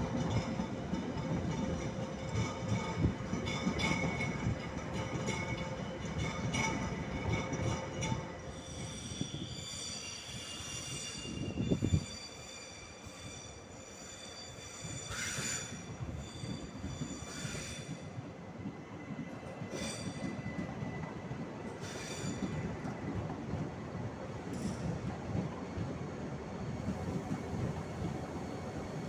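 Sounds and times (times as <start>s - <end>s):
rumble of wheels on rail: 0.0s - 29.0s
train wheels squealing: 0.0s - 29.0s.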